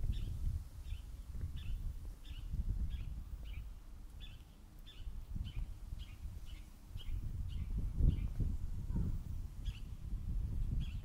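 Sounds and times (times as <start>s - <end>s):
gusty low rumble: 0.0s - 3.7s, 5.2s - 11.0s.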